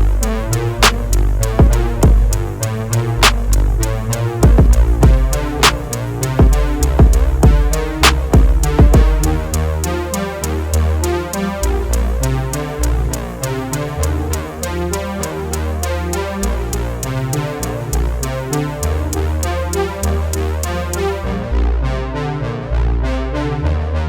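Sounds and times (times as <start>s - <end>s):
electronic music with drum-machine beat: 0.0s - 21.3s.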